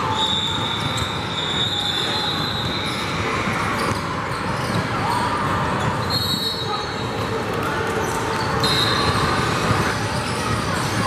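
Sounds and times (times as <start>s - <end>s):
spectators chattering: 0.0s - 11.0s.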